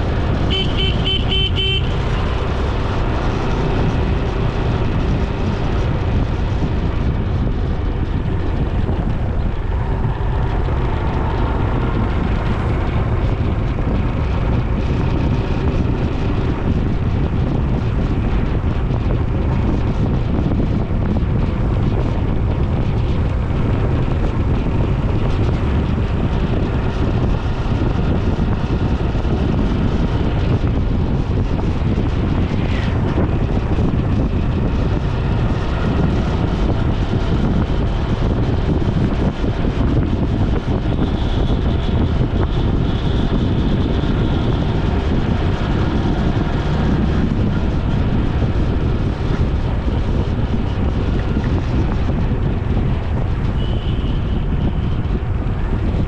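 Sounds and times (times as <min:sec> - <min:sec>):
vehicle and road noise: 0:00.0 - 0:56.0
wind rush on microphone: 0:00.0 - 0:56.0.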